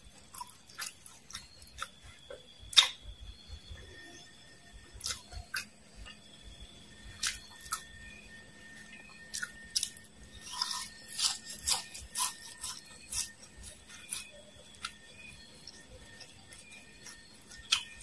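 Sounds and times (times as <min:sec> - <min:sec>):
crunchy food being chewed: 0:00.0 - 0:18.0.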